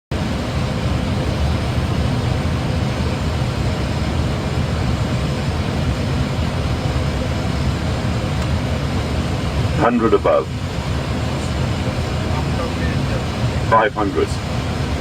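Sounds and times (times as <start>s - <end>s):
low rumble of airflow and engines: 0.1s - 15.0s.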